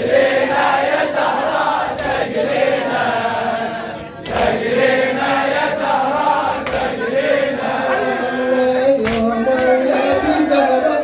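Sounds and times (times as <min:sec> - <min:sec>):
crowd chanting a lament: 0:00.0 - 0:11.0.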